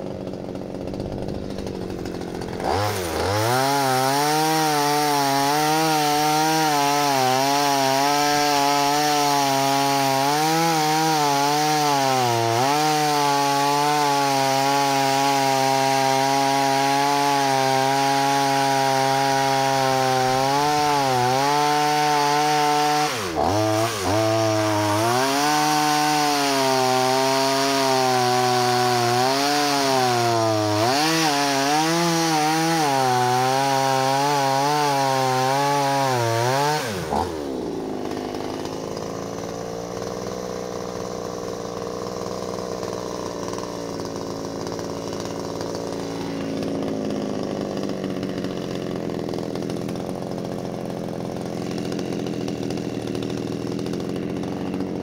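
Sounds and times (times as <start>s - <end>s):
chainsaw cutting through log: 0.0s - 55.0s
chainsaw idling: 0.0s - 55.0s.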